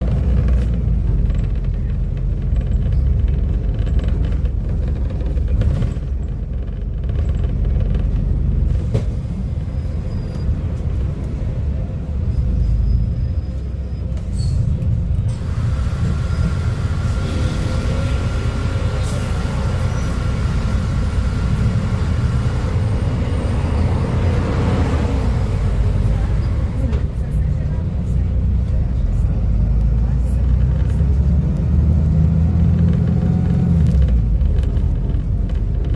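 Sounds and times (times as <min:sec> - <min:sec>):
bus diesel engine rumbling: 0:00.0 - 0:35.9.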